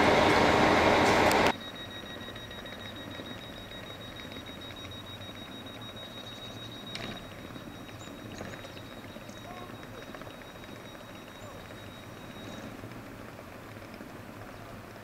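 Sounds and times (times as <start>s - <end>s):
thin high-pitched whine: 0.0s - 13.0s
electric train approaching slowly: 0.0s - 15.0s
station ambience: 0.0s - 15.0s
train rolling loudly: 0.0s - 15.0s.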